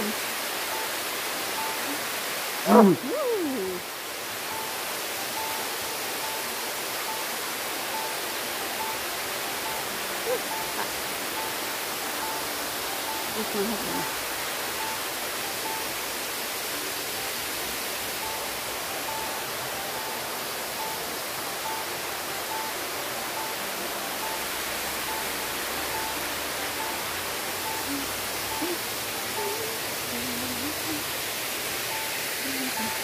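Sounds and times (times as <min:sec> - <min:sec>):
water rushing down spillway: 0:00.0 - 0:33.0.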